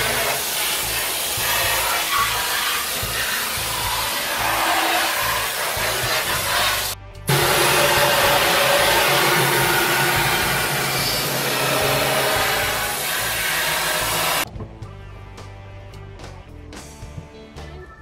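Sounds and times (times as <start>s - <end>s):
spray gun hissing: 0.0s - 14.4s.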